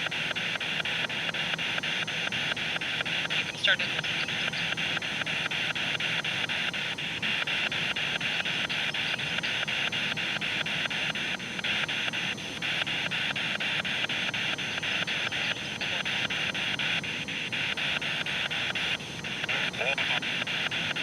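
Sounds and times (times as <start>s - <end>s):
radio scanning clicks: 0.0s - 21.0s
radio static hiss: 0.0s - 21.0s.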